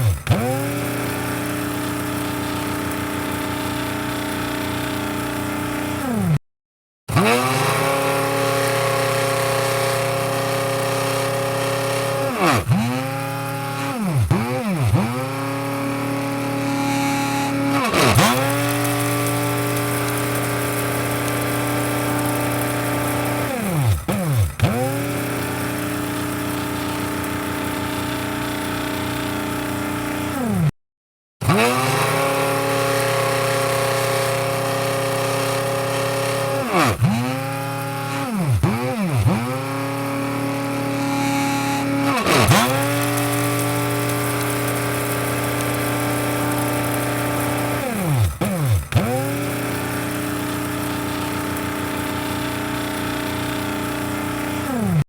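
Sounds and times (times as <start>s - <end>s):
electric coffee grinder whirring: 0.0s - 6.4s, 7.1s - 30.7s, 31.4s - 55.0s.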